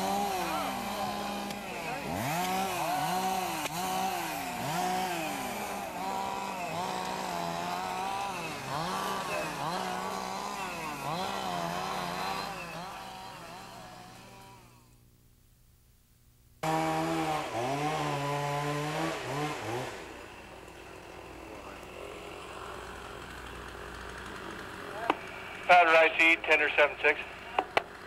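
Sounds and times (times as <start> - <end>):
chainsaw revving: 0.0 - 15.0, 16.6 - 26.0.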